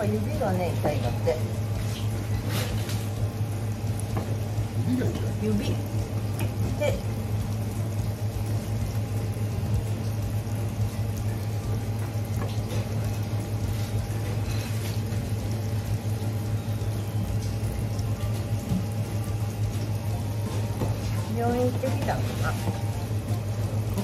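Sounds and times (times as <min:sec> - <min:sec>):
water running from a tap: 0:00.0 - 0:24.0.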